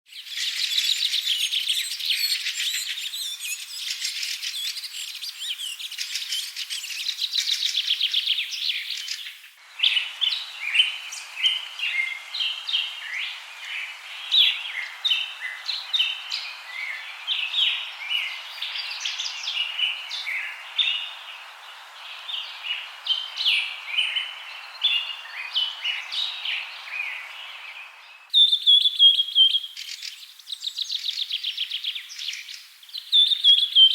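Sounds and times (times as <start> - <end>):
birds singing: 0.1 - 33.9
faint steady hiss: 0.1 - 33.9.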